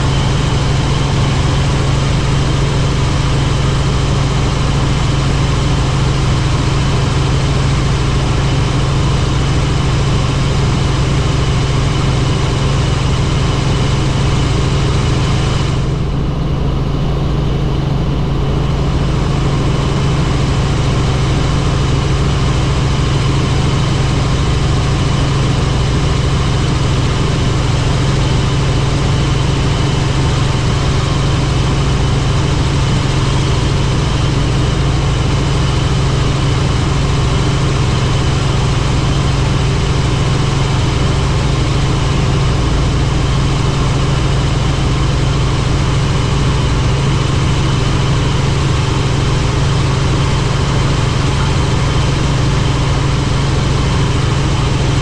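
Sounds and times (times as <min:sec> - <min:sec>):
helicopter rotor drone: 0:00.0 - 0:55.0.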